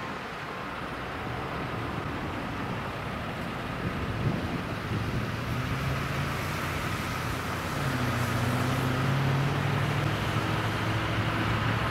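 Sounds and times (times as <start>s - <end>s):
road noise: 0.0s - 11.9s
vehicle engines humming: 0.0s - 11.9s.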